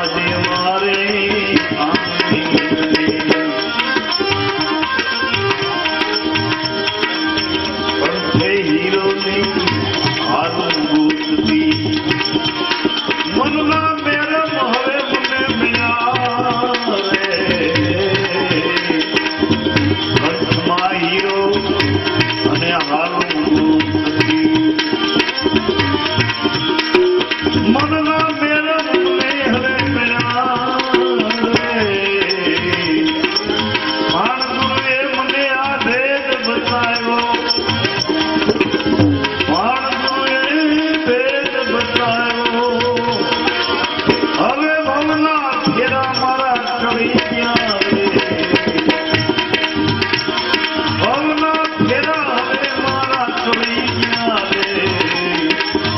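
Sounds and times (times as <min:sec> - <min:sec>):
sliding melody instrument: 0:00.0 - 0:55.9
tabla beat: 0:00.0 - 0:55.9.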